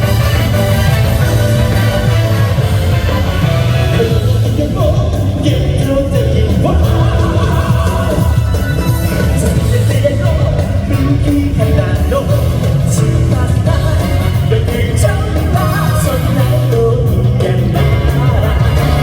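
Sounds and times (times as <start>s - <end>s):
live rock song with male vocal: 0.0s - 19.0s.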